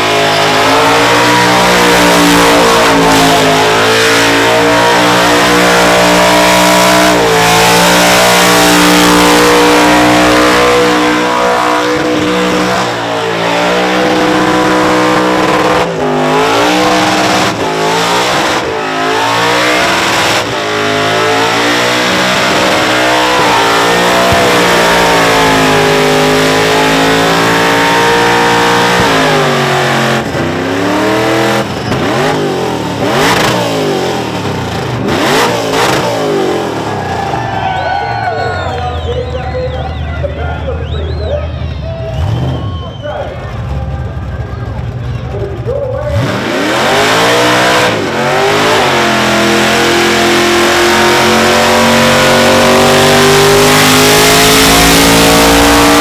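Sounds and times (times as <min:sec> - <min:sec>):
car engine revving high: 0:00.0 - 0:56.0.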